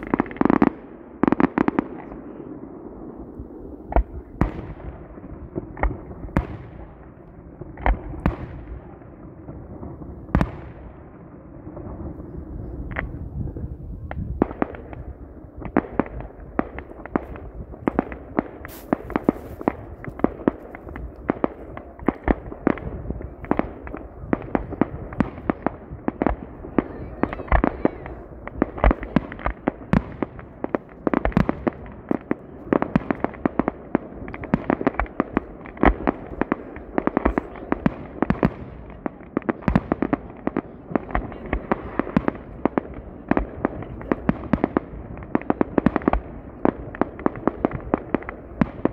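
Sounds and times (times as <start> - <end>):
fireworks banging: 0.0 - 48.9.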